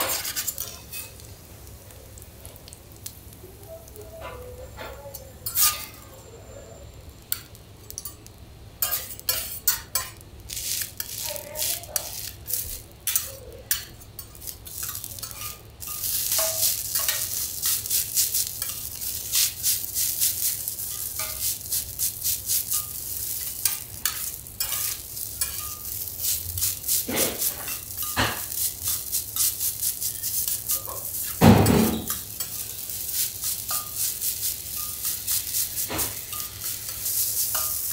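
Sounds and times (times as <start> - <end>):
metal spatulas scraping a griddle: 0.0 - 1.2, 4.2 - 6.1, 8.8 - 37.9
rice sizzling on a griddle: 0.0 - 37.9.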